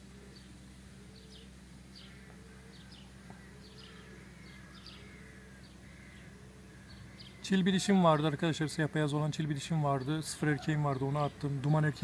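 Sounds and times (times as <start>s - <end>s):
faint low hum: 0.0s - 12.0s
small birds chirping: 0.0s - 12.0s.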